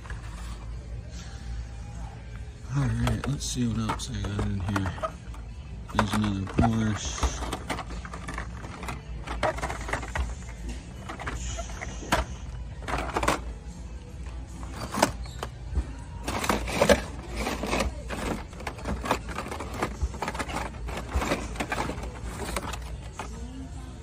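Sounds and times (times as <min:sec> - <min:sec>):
background music: 0:00.0 - 0:24.0
plastic packages clacking and rustling: 0:02.7 - 0:13.7, 0:14.3 - 0:23.6.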